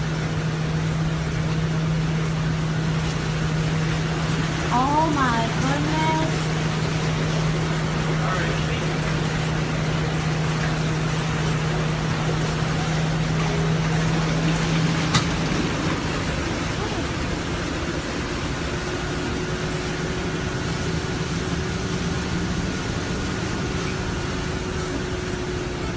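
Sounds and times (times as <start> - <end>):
bus engine and road noise: 0.0 - 25.9.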